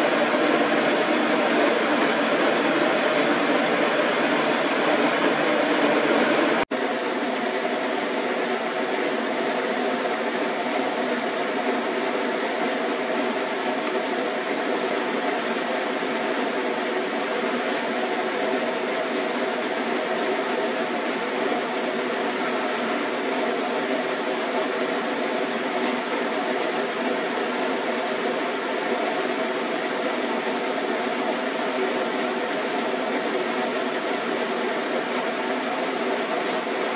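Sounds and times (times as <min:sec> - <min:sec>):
steady rushing noise: 0:00.0 - 0:36.9.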